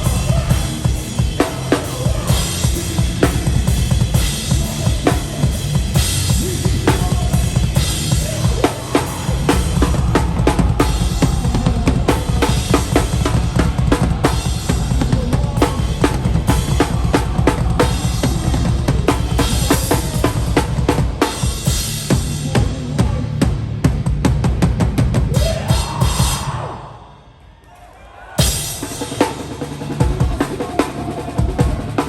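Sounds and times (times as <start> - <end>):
live hardcore band playing: 0.0 - 26.9, 28.4 - 32.0.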